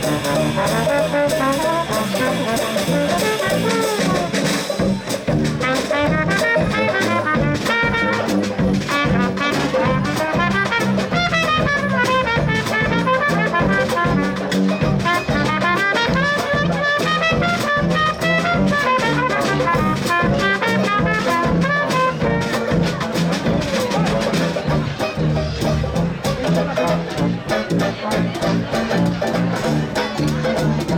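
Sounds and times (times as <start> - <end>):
bass and drum kit beat: 0.0 - 30.9
swing band playing: 0.0 - 30.9
trumpets and trombones: 0.0 - 30.9.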